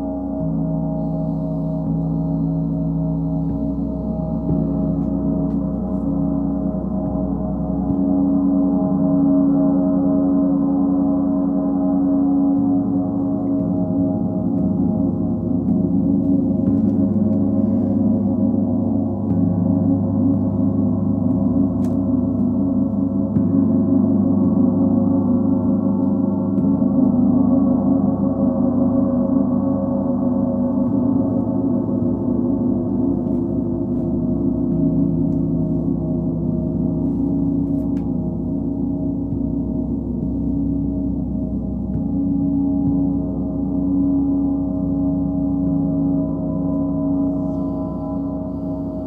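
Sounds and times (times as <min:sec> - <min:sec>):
deep hum: 0:00.0 - 0:49.0.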